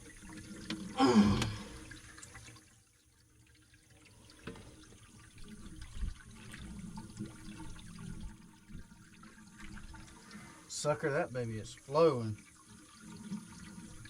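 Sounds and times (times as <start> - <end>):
water flowing through pipe: 0.0 - 14.0.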